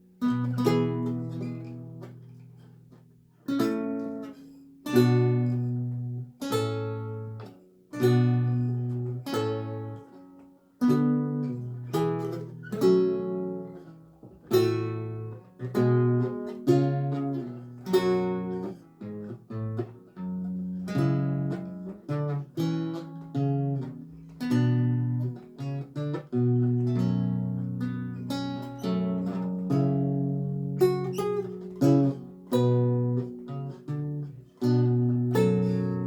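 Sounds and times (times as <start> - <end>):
solo lute music: 0.0 - 36.0.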